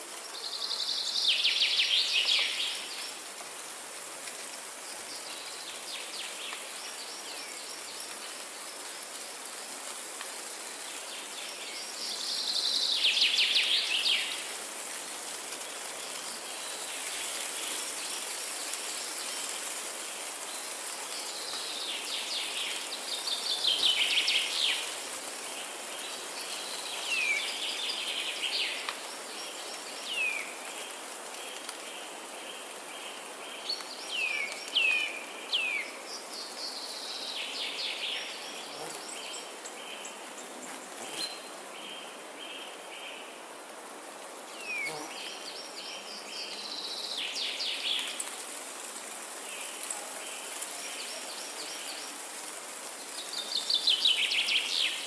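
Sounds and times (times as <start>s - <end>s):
steady high hiss: 0.0s - 55.0s.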